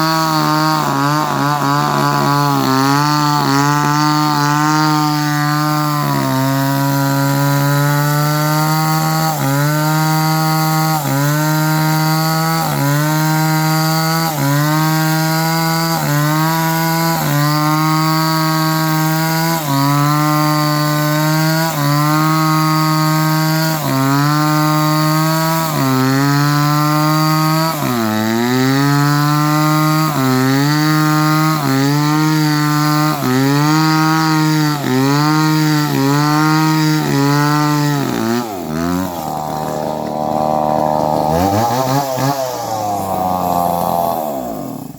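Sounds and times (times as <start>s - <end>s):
chainsaw engine running: 0.0s - 44.9s.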